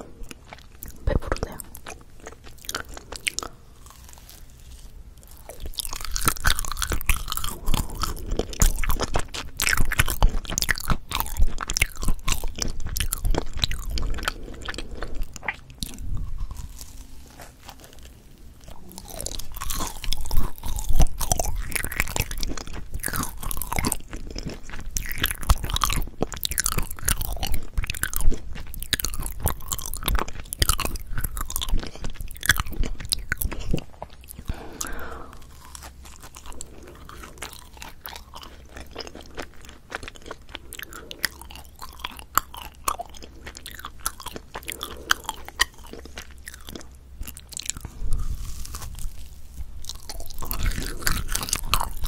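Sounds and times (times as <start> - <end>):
wet crackling chewing: 0.0 - 52.0
crunchy bites of bread: 1.8 - 52.0.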